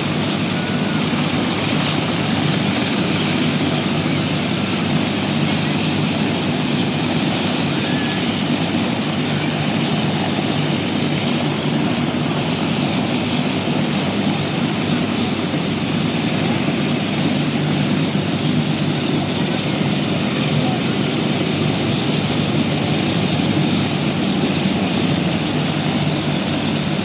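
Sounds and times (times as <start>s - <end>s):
helicopter rotor and engine drone: 0.0s - 27.0s
high turbine whine: 0.0s - 27.0s.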